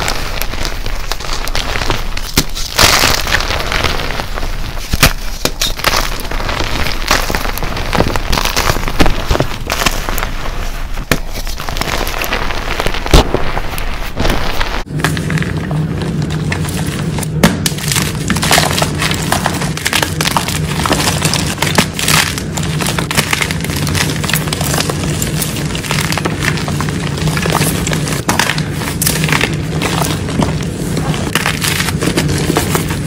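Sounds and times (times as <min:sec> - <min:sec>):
chalk crunching and crackling: 0:00.0 - 0:33.0.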